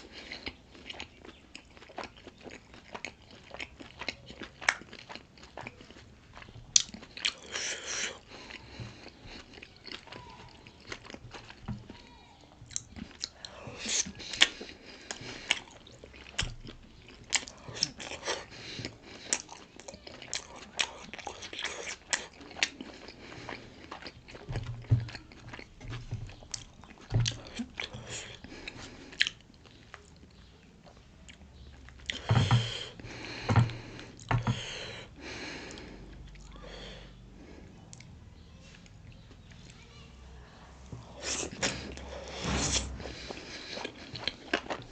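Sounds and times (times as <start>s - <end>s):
mouth chewing and smacking: 0.0s - 36.6s, 41.0s - 42.6s, 43.2s - 44.9s.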